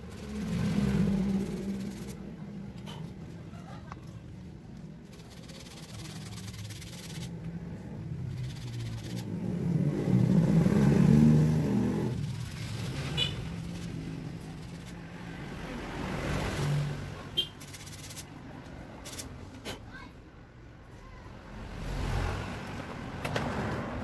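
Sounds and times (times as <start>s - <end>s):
vehicle engine passing by: 0.0s - 4.0s, 5.0s - 19.3s, 21.3s - 24.0s.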